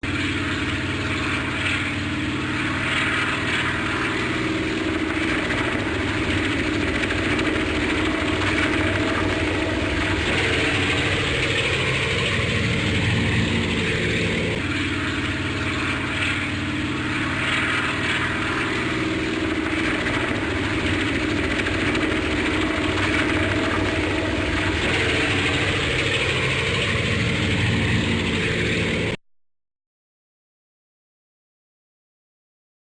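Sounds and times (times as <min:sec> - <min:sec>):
helicopter engine and rotor drone: 0:00.0 - 0:29.2.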